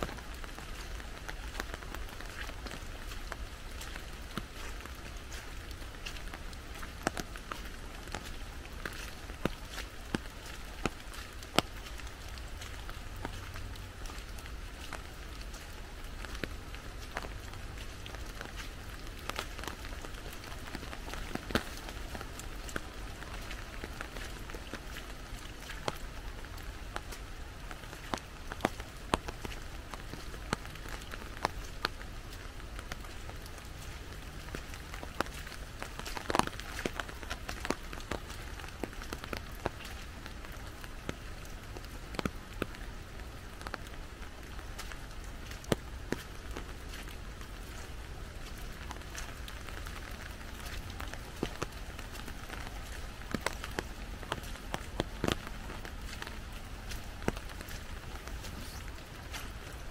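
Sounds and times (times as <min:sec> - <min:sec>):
rain pattering on umbrella: 0:00.0 - 0:59.9.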